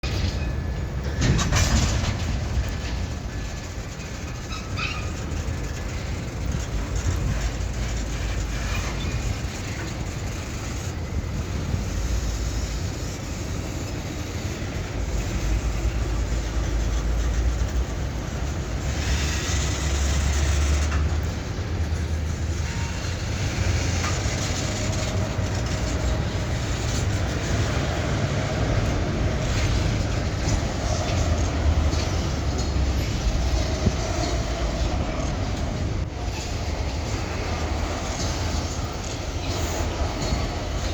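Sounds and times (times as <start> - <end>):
diesel locomotive rumble: 0.0 - 40.9
faint wheel squeal: 0.0 - 40.9
freight cars clicking over rail joints: 0.0 - 40.9.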